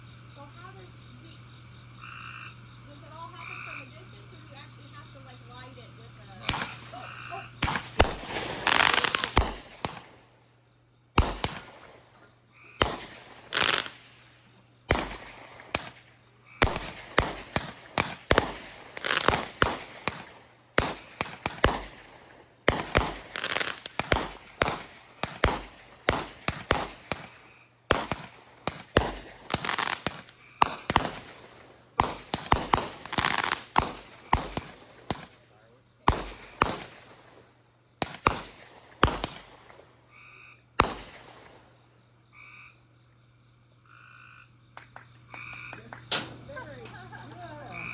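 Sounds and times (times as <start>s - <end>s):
fireworks banging and crackling: 0.0s - 2.0s, 2.6s - 10.4s, 11.1s - 40.0s, 40.7s - 41.9s, 44.7s - 47.9s.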